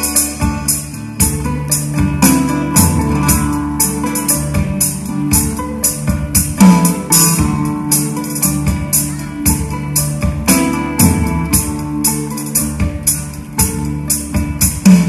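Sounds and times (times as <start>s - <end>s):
live band playing: 0.0s - 15.0s
steady high percussion strokes: 0.0s - 15.0s.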